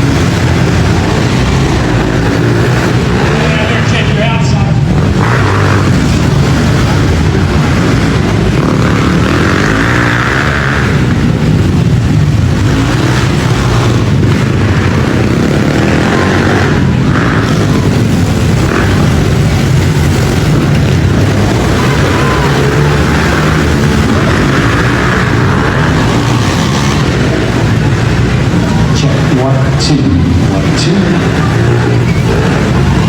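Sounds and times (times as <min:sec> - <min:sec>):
pit bike engines racing: 0:00.0 - 0:33.0.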